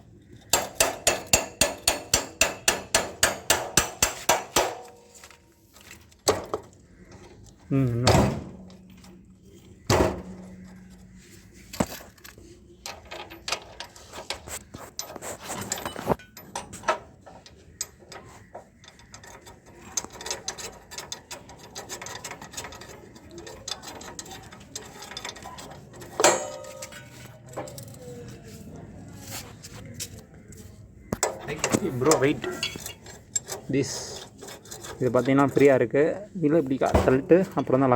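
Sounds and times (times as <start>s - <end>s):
hand tools clicking and rattling: 0.2s - 7.6s, 9.9s - 28.5s, 31.1s - 37.9s.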